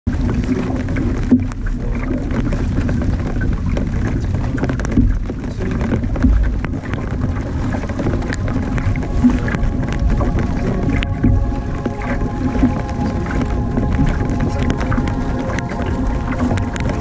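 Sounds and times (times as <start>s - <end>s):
choppy water against hull: 0.1s - 17.0s
paddle strokes splashing: 0.1s - 17.0s
wind buffeting microphone: 0.1s - 17.0s.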